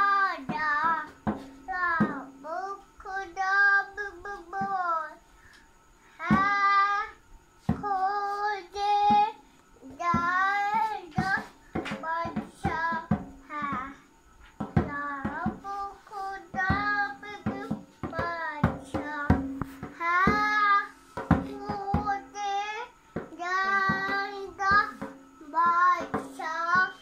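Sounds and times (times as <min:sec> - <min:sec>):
child singing: 0:00.0 - 0:05.2, 0:06.2 - 0:14.0, 0:14.6 - 0:27.0.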